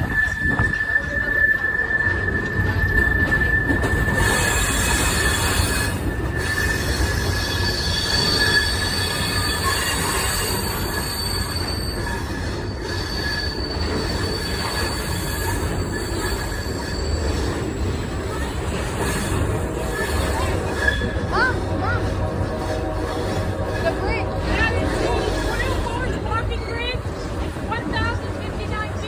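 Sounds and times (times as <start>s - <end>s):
train car rumble: 0.0s - 29.0s
train wheels squealing: 0.0s - 29.0s.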